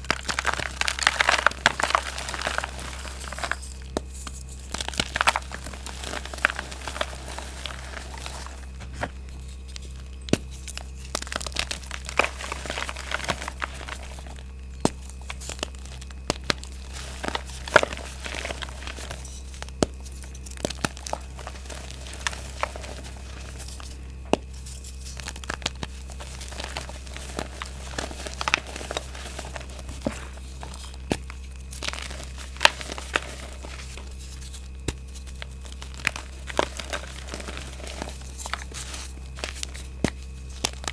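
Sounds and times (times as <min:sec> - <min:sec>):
chalk crushing and crunching: 0:00.0 - 0:40.9.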